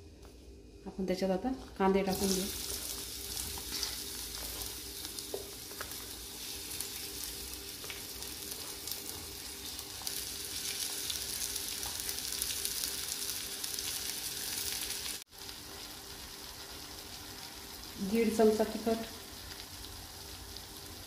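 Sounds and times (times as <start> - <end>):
onions sizzling in hot oil: 2.0 - 21.0.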